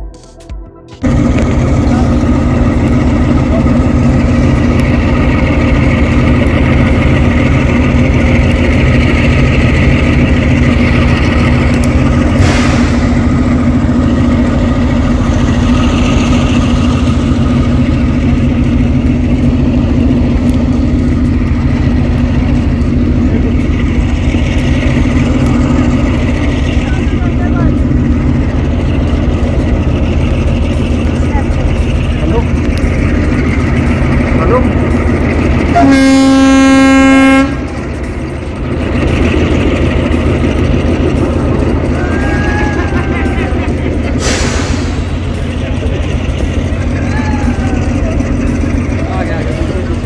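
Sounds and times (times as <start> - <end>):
engine idling: 1.0 - 50.0.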